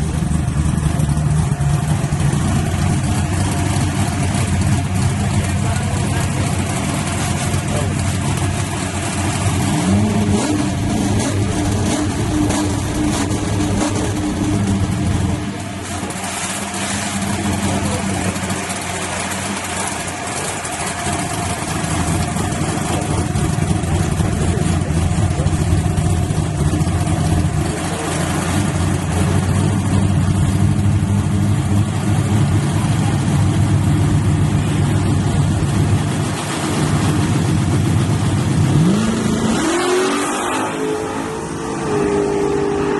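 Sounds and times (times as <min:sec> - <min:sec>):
truck engine idling loudly: 0:00.0 - 0:42.9.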